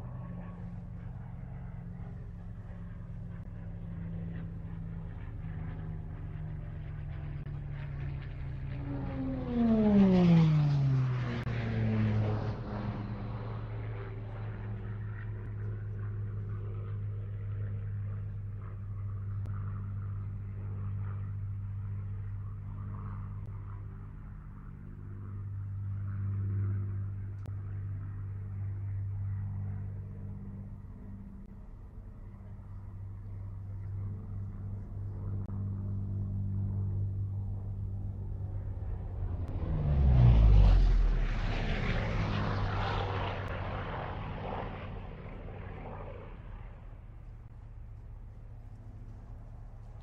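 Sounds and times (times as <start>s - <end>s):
engine drone: 0.0s - 50.0s.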